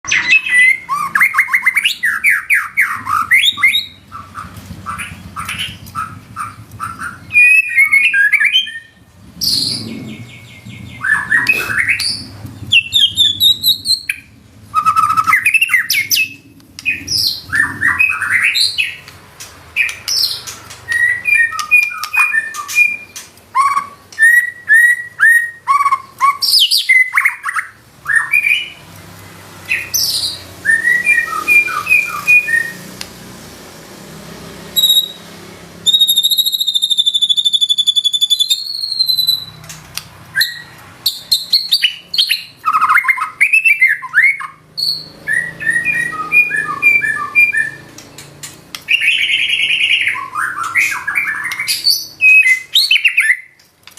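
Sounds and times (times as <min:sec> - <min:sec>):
bird singing: 0:00.0 - 0:28.9, 0:29.6 - 0:32.9, 0:34.6 - 0:53.6.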